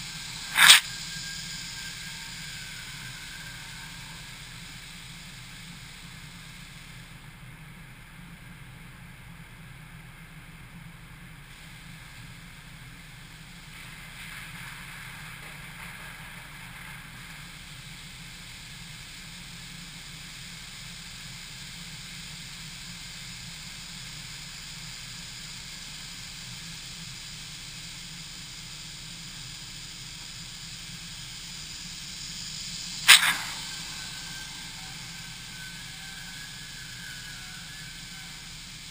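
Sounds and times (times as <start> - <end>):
high-pressure water spray hissing: 0.0 - 7.4, 11.3 - 38.9.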